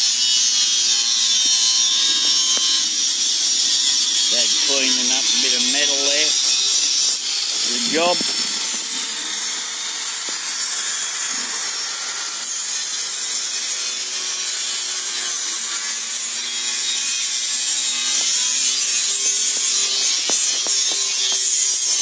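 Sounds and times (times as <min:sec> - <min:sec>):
power tool abrading steel: 0:00.0 - 0:22.0.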